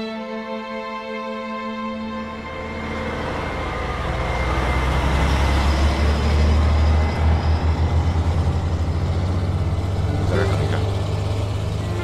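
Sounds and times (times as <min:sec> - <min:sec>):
vehicle engine running: 0:02.2 - 0:12.0.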